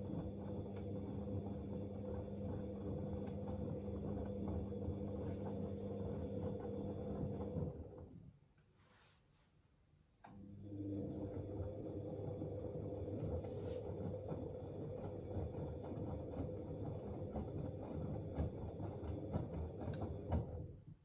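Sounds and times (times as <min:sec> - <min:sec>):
washing machine motor hum: 0:00.0 - 0:08.5, 0:10.2 - 0:21.0.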